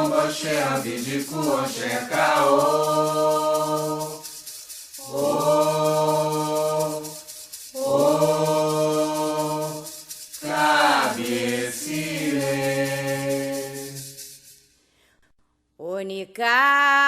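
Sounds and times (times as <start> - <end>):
voices chanting long notes: 0.0 - 14.3.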